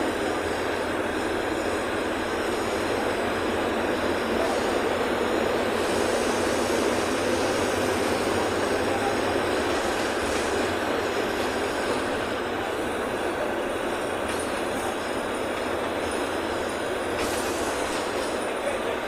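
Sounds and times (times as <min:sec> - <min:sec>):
bus engine and tyre rumble: 0:00.0 - 0:19.0.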